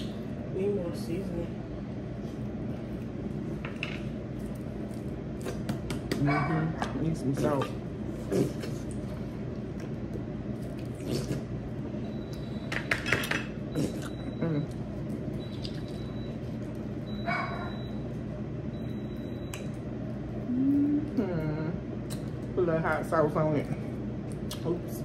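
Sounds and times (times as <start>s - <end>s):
air fryer humming: 0.0s - 25.0s.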